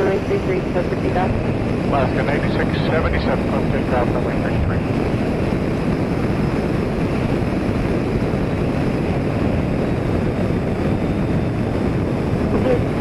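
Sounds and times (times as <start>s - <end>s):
strong wind on microphone: 0.0s - 13.0s.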